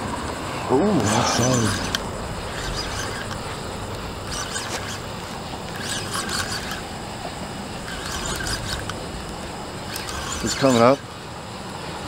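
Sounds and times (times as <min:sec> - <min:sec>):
steady outdoor hiss: 0:00.0 - 0:12.0
fishing reel zipping: 0:00.8 - 0:11.2.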